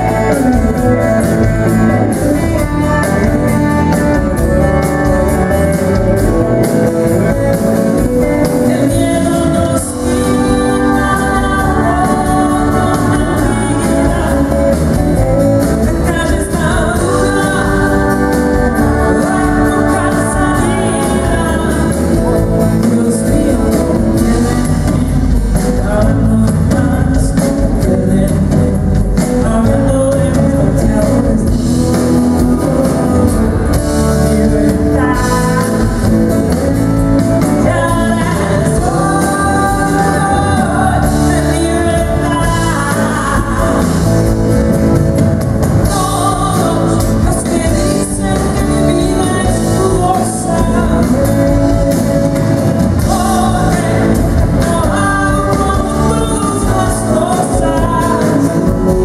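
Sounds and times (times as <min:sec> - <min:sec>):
live pop-rock band: 0:00.0 - 0:59.0
woman singing into microphone: 0:08.4 - 0:44.5, 0:45.8 - 0:59.0.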